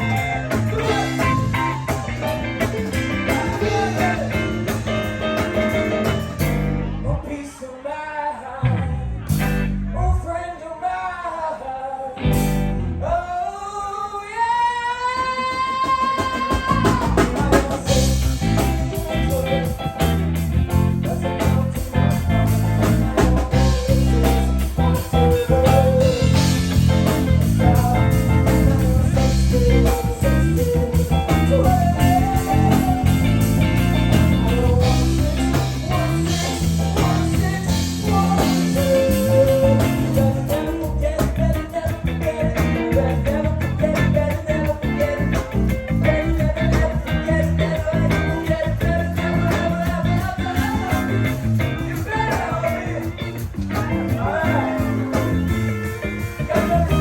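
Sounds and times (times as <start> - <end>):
live blues-rock band playing: 0.0 - 7.3, 8.7 - 10.2, 12.2 - 13.1, 15.0 - 57.0.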